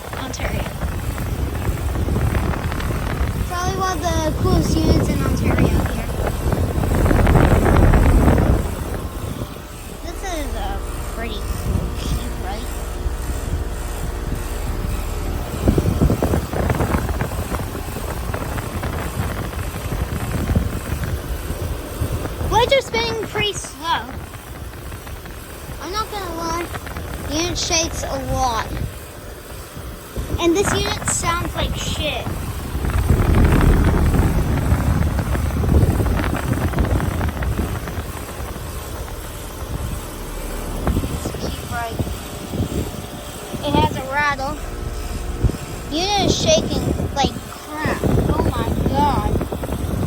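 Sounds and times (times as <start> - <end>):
air conditioner running: 0.0 - 50.0
unit rattling: 0.0 - 50.0.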